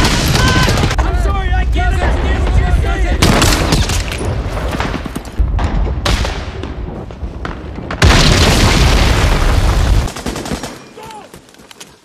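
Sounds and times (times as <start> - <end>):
booming explosions: 0.0 - 10.2.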